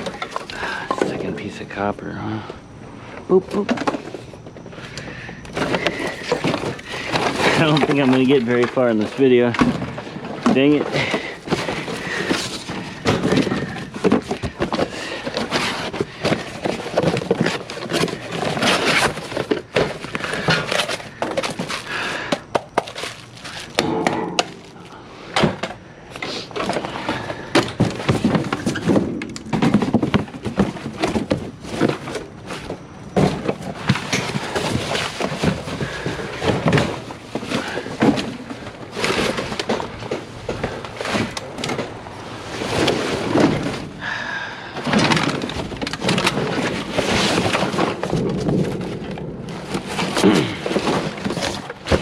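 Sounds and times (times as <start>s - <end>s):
scrap clattering in metal dumpster: 5.6s - 21.9s, 23.4s - 44.0s, 44.6s - 52.0s.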